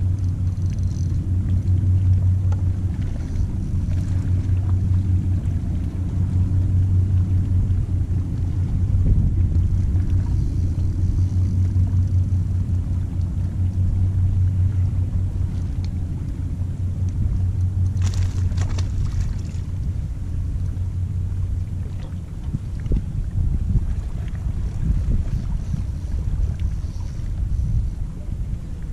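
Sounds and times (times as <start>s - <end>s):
hum: 0.0s - 28.9s
low rumble: 0.0s - 28.9s.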